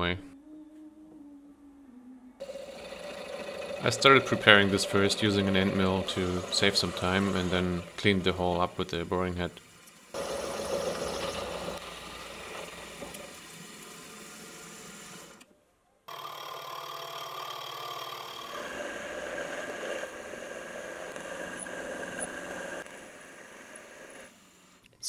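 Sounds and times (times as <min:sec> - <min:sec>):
boring head boring metal: 0:02.4 - 0:15.4, 0:16.1 - 0:24.5
milling machine cutting metal: 0:02.4 - 0:15.4, 0:16.1 - 0:24.3.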